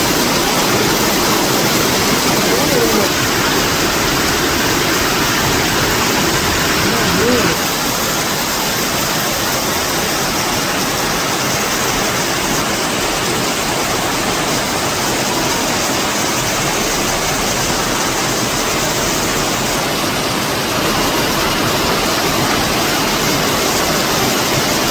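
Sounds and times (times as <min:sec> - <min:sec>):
heavy rain falling: 0:00.0 - 0:24.9.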